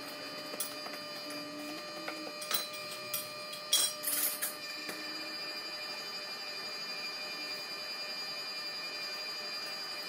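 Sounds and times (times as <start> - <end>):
shop machinery whine: 0.0 - 10.0.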